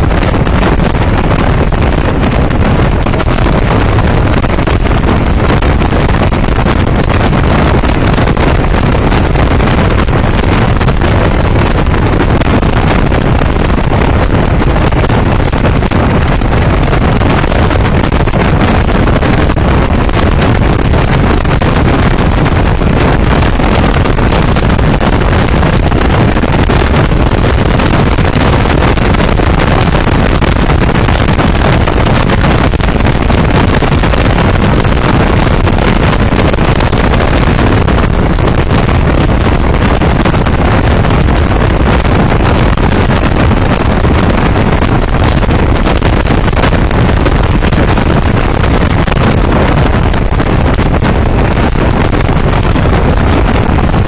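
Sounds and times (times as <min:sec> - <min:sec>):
loud wind rush: 0:00.0 - 0:54.0
low road rumble: 0:00.0 - 0:54.0.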